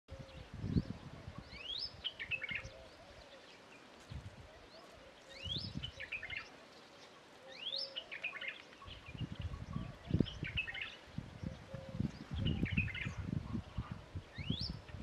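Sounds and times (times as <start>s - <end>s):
robin singing: 0.1s - 15.0s.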